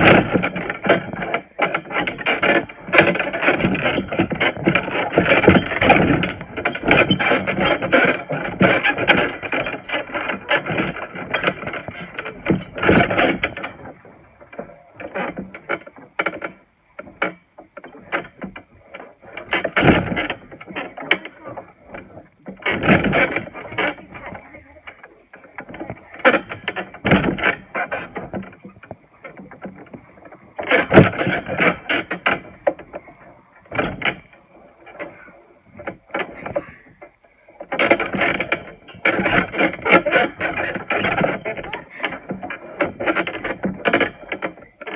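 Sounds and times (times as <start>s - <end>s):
trampoline thudding and creaking: 0.0s - 44.9s.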